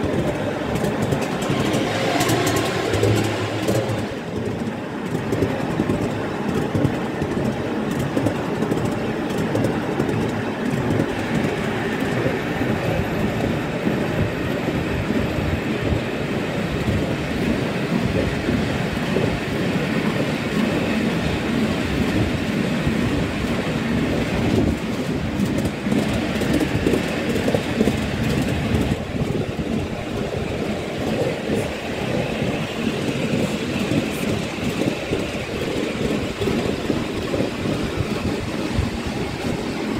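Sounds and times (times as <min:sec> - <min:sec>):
fast clatter over track: 0:00.0 - 0:16.0, 0:16.7 - 0:39.9
train wheels rumbling on rails: 0:00.0 - 0:39.9.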